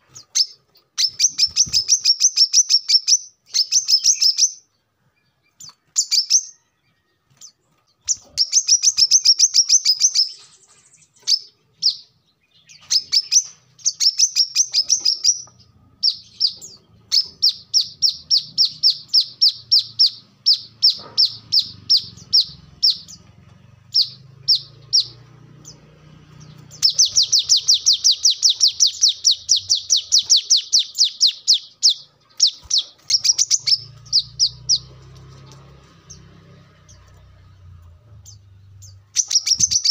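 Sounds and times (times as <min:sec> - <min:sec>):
bird trilling: 0:00.1 - 0:04.6, 0:08.0 - 0:39.9.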